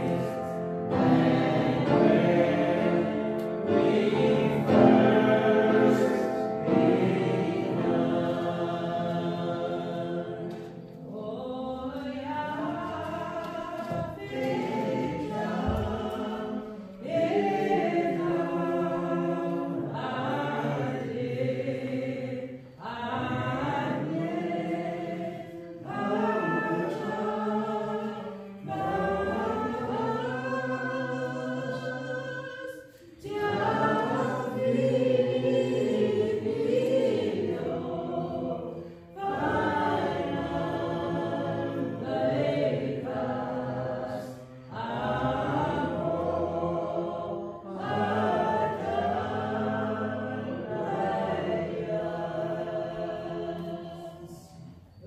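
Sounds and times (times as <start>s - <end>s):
voices singing a slow hymn: 0.0s - 55.0s.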